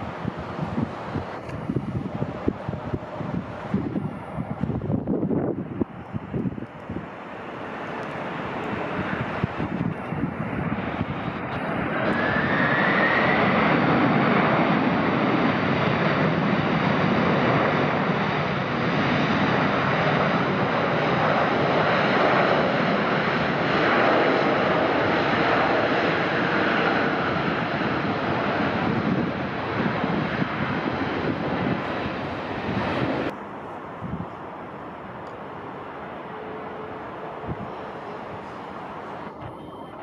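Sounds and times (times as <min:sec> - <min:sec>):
airliner engines rushing: 0:00.0 - 0:40.0
rising engine whine: 0:00.0 - 0:40.0.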